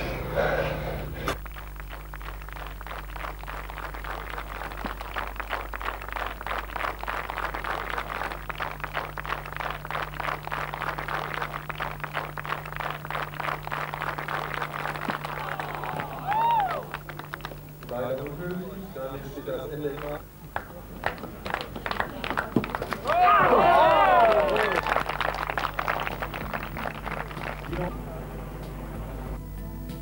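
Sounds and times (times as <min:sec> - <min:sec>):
low electrical hum: 0:00.0 - 0:30.0
spectators clapping: 0:01.3 - 0:28.0.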